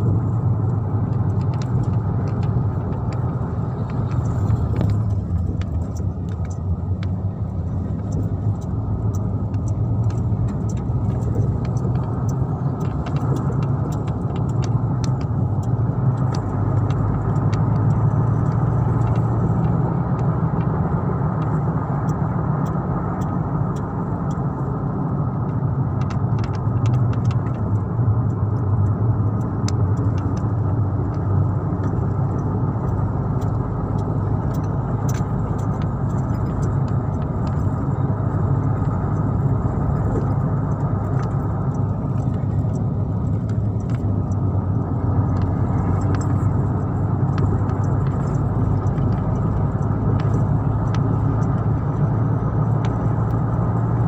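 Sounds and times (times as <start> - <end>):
vehicle engine and road noise: 0.0 - 54.0
faint ticks and rattles: 0.1 - 54.0.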